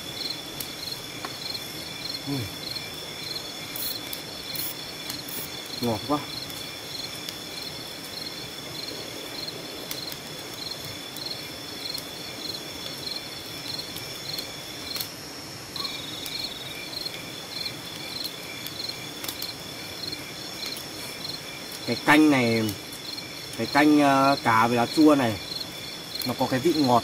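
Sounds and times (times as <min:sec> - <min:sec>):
crickets trilling: 0:00.0 - 0:27.0
insect chirping in pulses: 0:00.0 - 0:27.0.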